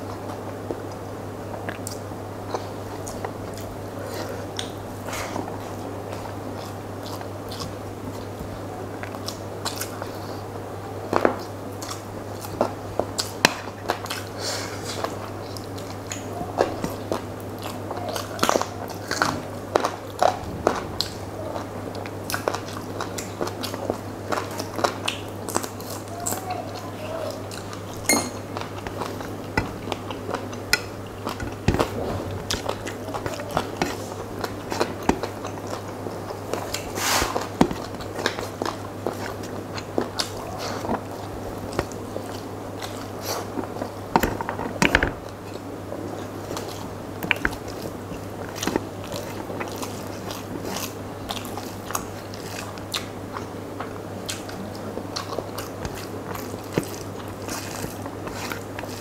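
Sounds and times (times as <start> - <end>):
man chewing with wet mouth sounds: 0.0 - 59.0
steady low hum: 0.0 - 59.0.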